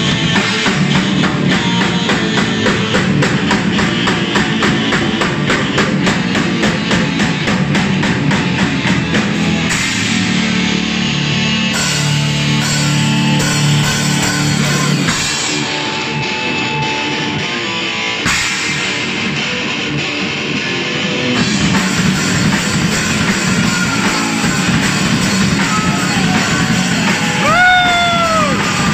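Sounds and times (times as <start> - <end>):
heavy metal band playing: 0.0 - 28.9.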